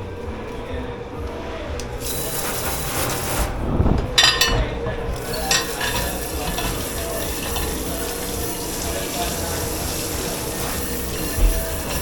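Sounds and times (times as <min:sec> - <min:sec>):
machine hum: 0:00.0 - 0:12.0
steady hiss: 0:01.4 - 0:12.0
dishes and cutlery clattering: 0:02.0 - 0:12.0.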